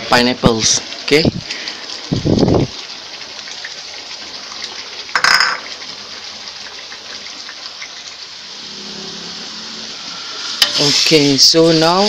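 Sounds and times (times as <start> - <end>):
spice paste sizzling in oil: 0.5 - 12.0.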